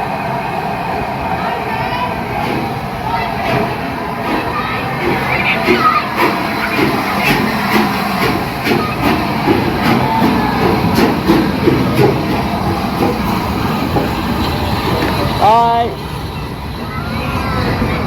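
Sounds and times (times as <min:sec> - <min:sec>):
train running noise: 0:00.0 - 0:18.0
train wheels clicking and clanking: 0:00.0 - 0:18.0.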